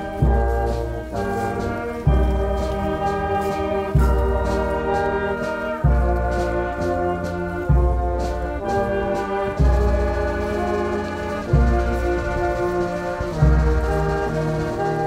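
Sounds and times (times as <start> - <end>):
slow brass music: 0.0 - 15.0.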